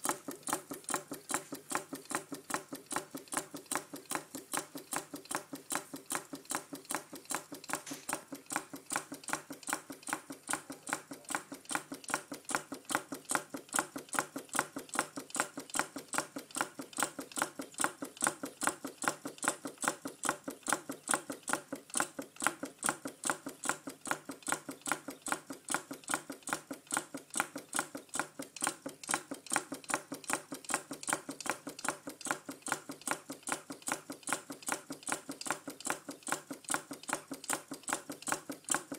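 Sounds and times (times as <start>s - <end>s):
stirling engine ticking: 0.0s - 38.9s.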